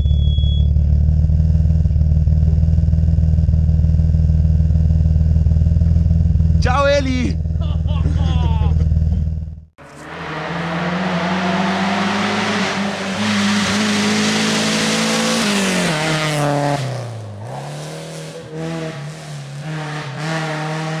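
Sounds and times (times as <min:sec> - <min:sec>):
car engine revving: 0:00.8 - 0:21.0.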